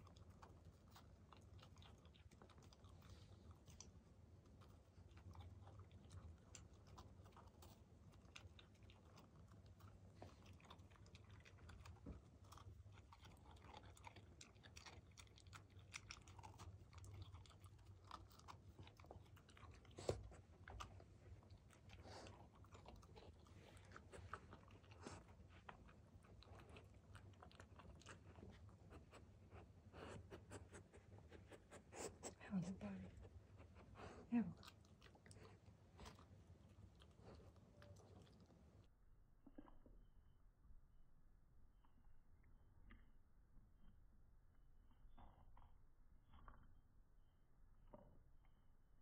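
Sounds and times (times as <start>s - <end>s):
puppy chewing crunchy cookie: 0.0s - 49.0s.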